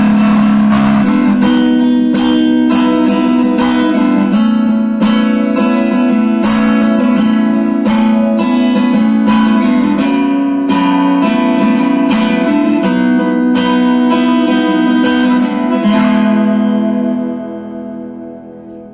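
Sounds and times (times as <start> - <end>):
acoustic guitar strummed: 0.0 - 18.9.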